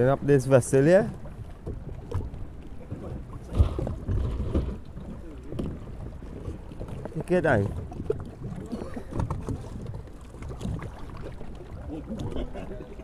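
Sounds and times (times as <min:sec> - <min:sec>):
sea water sloshing: 0:00.0 - 0:13.0.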